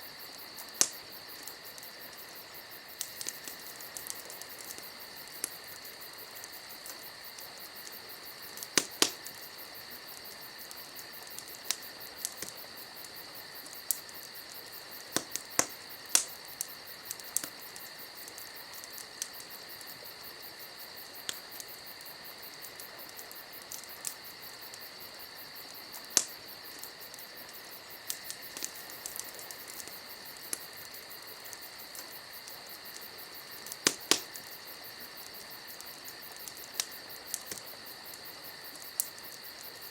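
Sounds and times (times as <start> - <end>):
sharp pops of fire: 0.0 - 39.9
wood fire crackling: 0.0 - 39.9.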